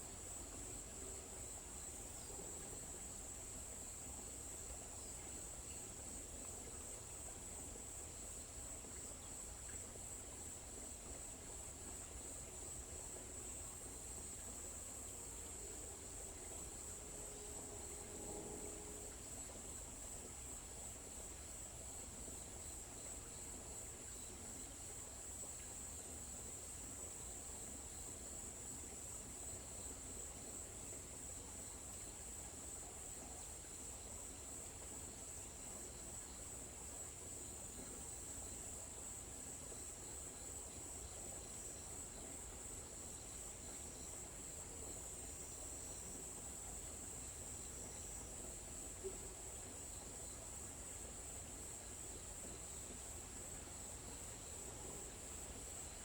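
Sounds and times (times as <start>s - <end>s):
crickets trilling: 8.2s - 56.0s.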